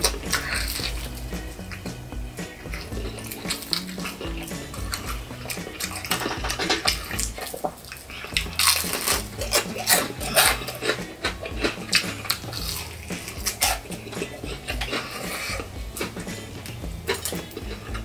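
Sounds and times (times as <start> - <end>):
crunching of fried crust: 0.0 - 18.0
wet chewing and smacking: 0.0 - 18.0.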